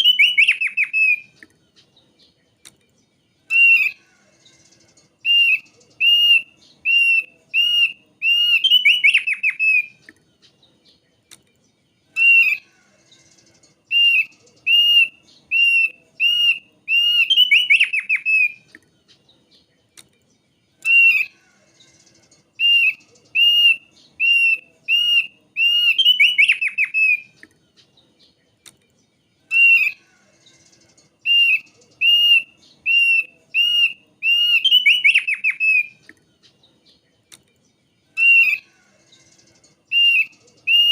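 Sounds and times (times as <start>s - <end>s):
bird whistling song with trill: 0.0s - 11.0s, 12.1s - 19.7s, 20.8s - 28.3s, 29.3s - 37.0s, 38.1s - 40.9s.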